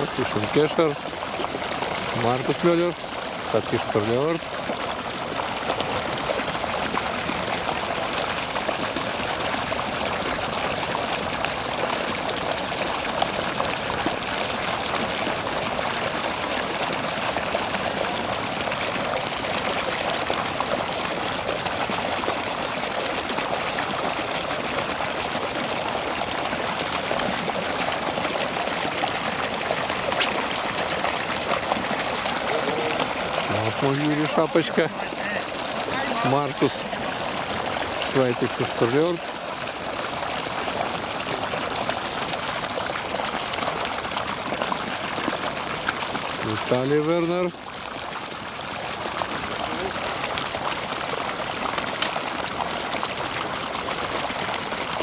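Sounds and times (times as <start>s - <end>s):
running water splashing: 0.0s - 55.0s.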